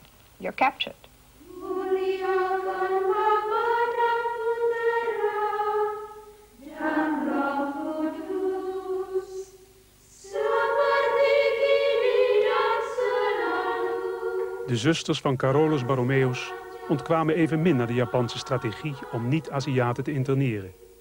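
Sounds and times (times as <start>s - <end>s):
choir of nuns singing: 1.4s - 21.0s.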